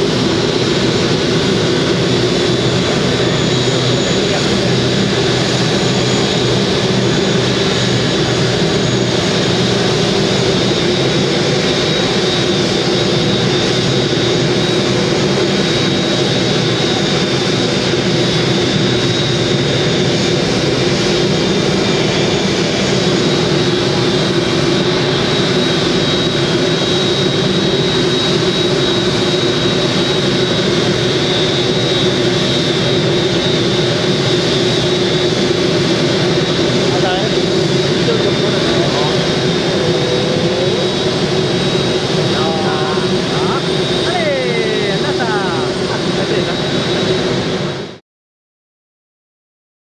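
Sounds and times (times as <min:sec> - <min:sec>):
jet engines idling: 0:00.0 - 0:48.0.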